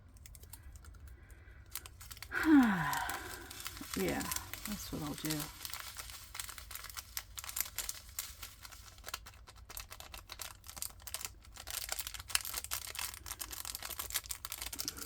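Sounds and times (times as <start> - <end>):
small plastic beads clicking: 0.0 - 15.0
plastic bags rustling: 0.2 - 15.0.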